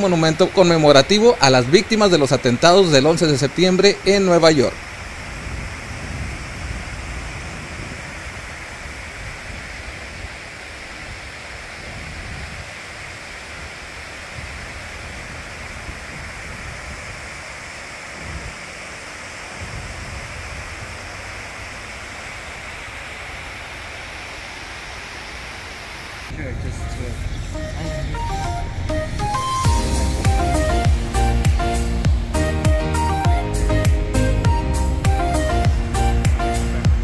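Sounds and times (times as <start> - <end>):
water cascading: 0.0 - 37.0.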